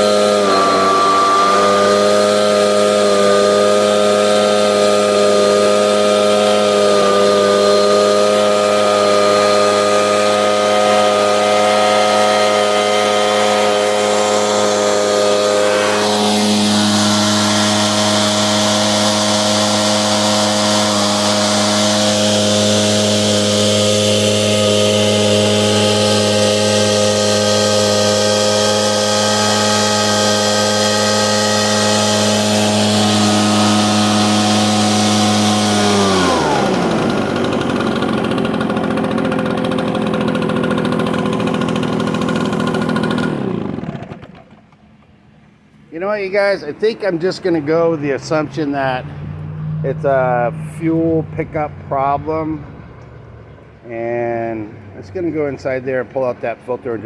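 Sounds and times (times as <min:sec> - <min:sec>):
leaf blower engine running: 0:00.0 - 0:57.0.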